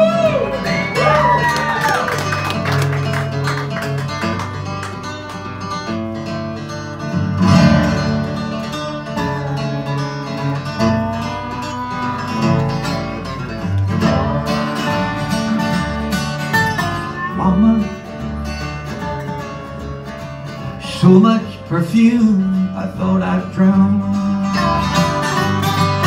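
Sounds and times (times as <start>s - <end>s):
acoustic guitar: 0.0s - 26.0s
resonator guitar: 0.0s - 26.0s
upright bass: 0.0s - 26.0s.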